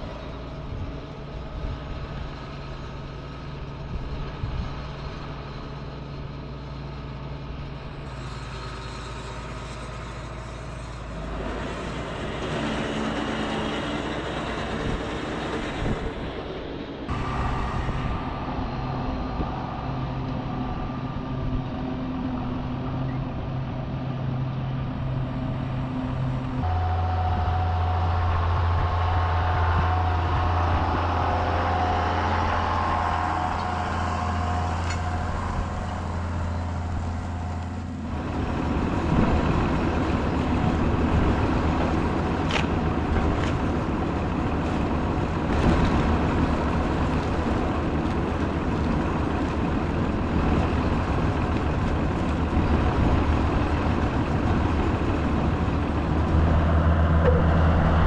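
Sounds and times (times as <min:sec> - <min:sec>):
rough noisy machine: 0:00.0 - 0:58.0
tractor engine droning: 0:00.0 - 0:58.0.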